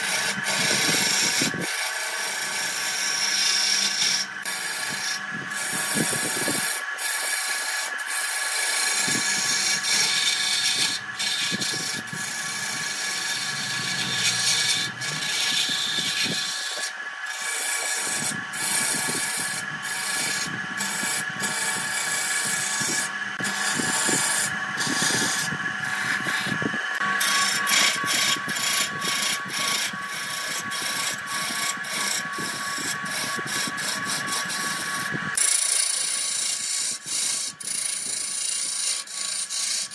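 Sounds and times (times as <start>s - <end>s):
lathe gouge scraping wood: 0.0s - 39.9s
lathe machine whine: 0.0s - 39.9s.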